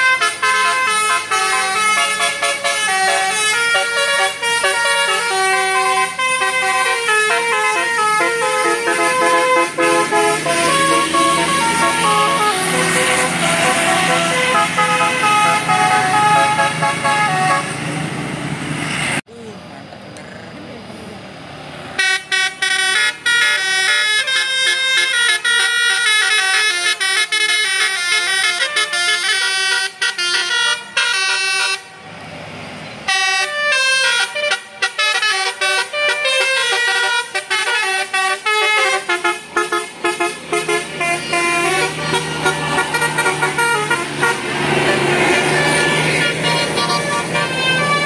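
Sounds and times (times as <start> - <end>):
multi-tone bus horn melody: 0.0 - 18.2, 22.0 - 32.2, 33.0 - 48.0.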